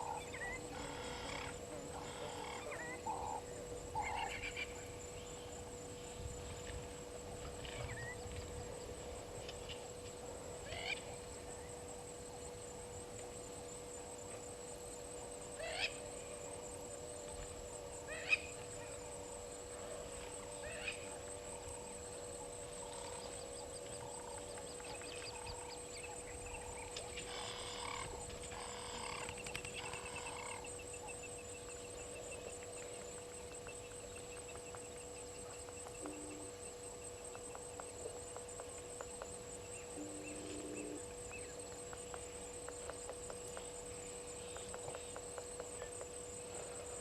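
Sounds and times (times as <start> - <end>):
high insect drone: 0.0 - 47.0.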